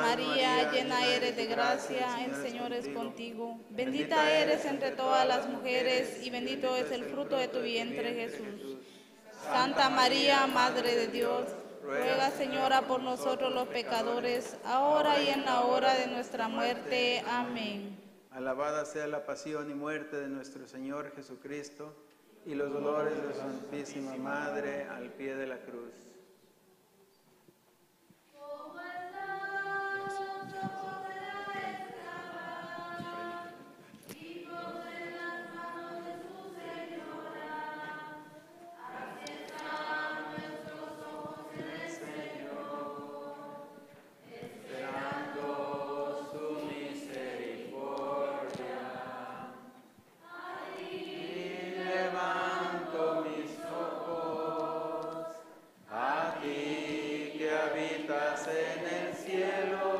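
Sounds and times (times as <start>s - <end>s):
congregation singing a hymn: 0.0s - 20.5s, 22.3s - 26.0s, 28.3s - 59.9s.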